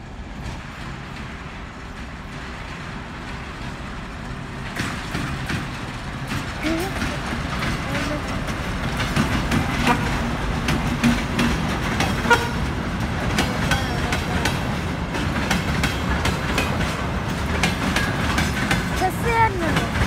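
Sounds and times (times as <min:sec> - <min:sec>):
locomotive engine rumble: 0:00.0 - 0:20.0
wheel clacks over rail joints: 0:00.4 - 0:20.0.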